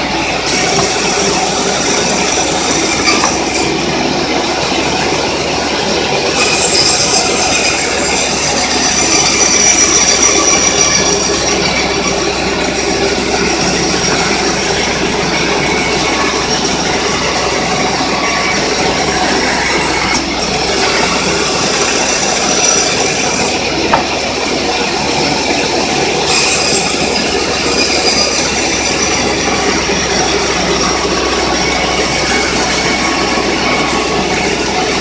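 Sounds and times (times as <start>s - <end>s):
band sawmill sawing log: 0.0s - 35.0s.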